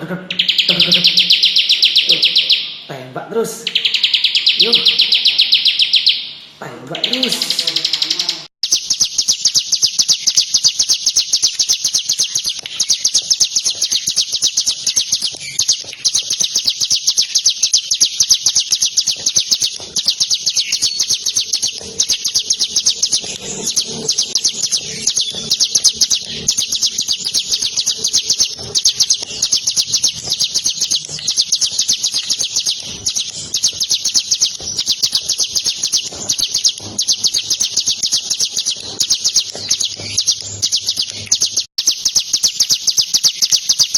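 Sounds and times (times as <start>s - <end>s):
bird singing rapid high chirps: 0.0s - 2.9s, 3.5s - 43.9s.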